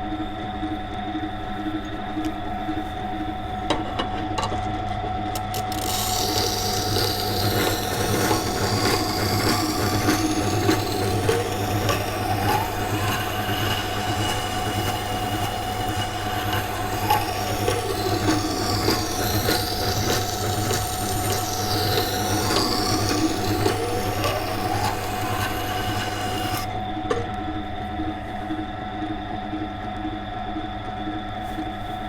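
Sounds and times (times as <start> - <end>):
grinding wheel humming: 0.0 - 31.8.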